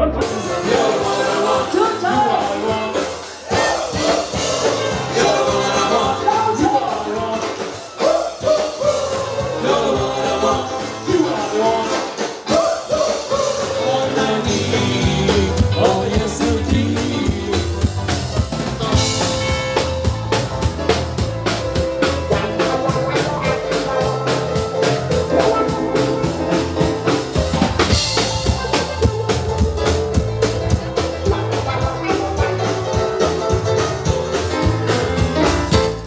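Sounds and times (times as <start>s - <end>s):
person singing: 0.0s - 18.0s, 22.0s - 27.0s, 28.2s - 34.4s
drum kit beat: 0.0s - 36.0s
live band music: 0.0s - 36.0s.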